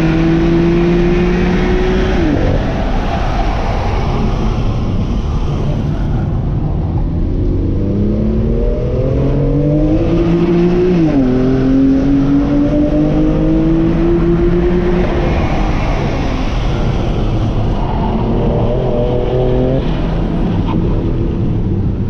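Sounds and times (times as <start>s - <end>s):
car engine accelerating hard: 0.0s - 22.0s
tyre and road noise: 0.0s - 22.0s.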